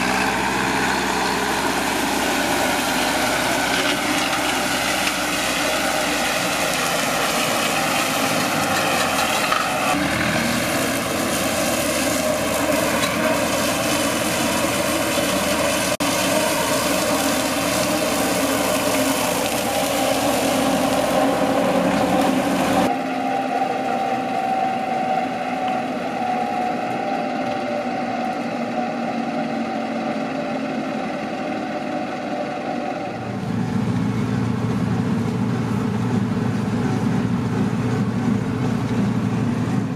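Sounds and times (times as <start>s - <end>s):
mower cutting grass: 0.0s - 39.9s
tractor diesel engine running: 0.0s - 39.9s.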